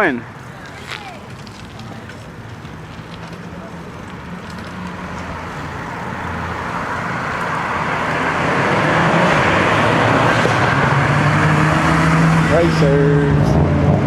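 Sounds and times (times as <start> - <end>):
road traffic noise: 0.0 - 14.0
vehicle engine hum: 0.0 - 14.0.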